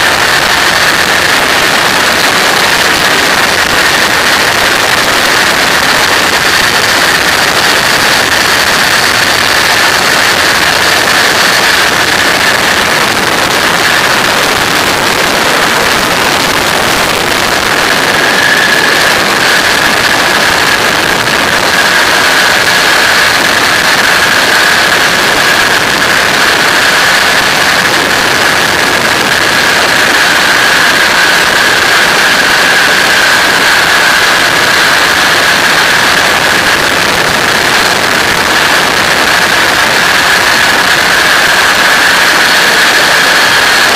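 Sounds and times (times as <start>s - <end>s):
aircraft engine and propeller: 0.0s - 43.9s
steady high whine: 0.0s - 43.9s
wind rush on microphone: 0.0s - 43.9s.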